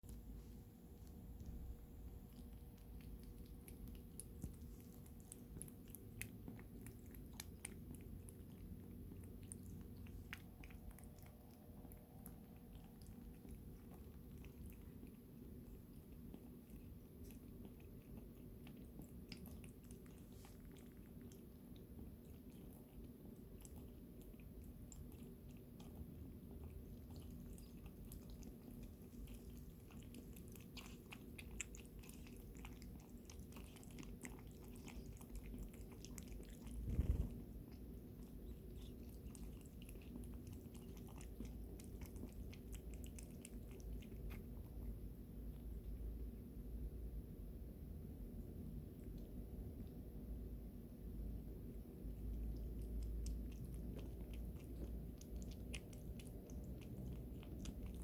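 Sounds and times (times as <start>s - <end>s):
cat chewing food: 0.0s - 58.0s
low room hum: 0.0s - 58.0s.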